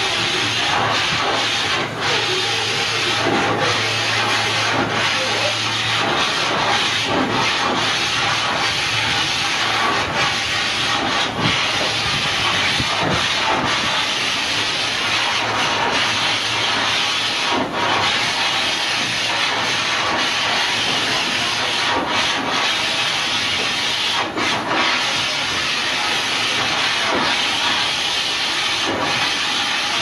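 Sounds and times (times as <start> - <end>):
steam engine hissing: 0.0 - 30.0.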